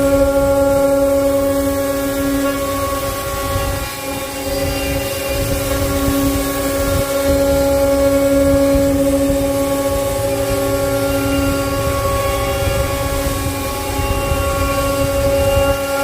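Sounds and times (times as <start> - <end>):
cnc router spindle whine: 0.0 - 16.0
low machine rumble: 0.0 - 16.0.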